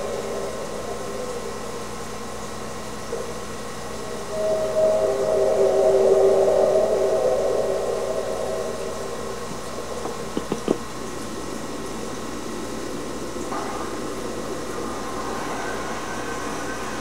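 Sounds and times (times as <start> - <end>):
loud tonal drone: 0.0 - 17.0
steady hiss: 0.0 - 17.0.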